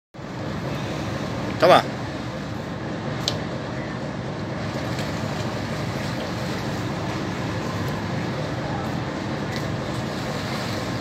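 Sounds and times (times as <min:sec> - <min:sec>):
boat engine and deck machinery: 0:00.1 - 0:11.0.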